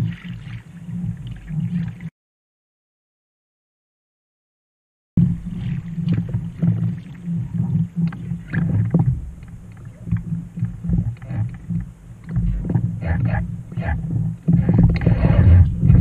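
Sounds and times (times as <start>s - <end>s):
paddle splashing water: 0.0s - 2.1s, 5.2s - 16.0s
steady low rumble: 0.0s - 2.1s, 5.2s - 16.0s.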